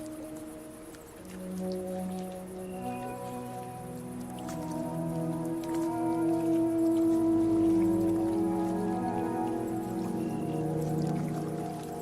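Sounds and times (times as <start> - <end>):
light rain: 0.0 - 12.0
slow ambient music: 0.0 - 12.0
water drips: 0.0 - 12.0.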